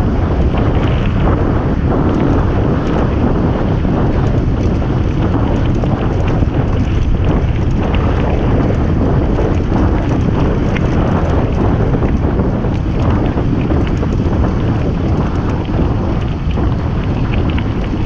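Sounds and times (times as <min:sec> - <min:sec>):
bike rattles and ticks: 0:00.0 - 0:18.0
tyres rumbling on gravel: 0:00.0 - 0:18.0
wind buffeting microphone: 0:00.0 - 0:18.0.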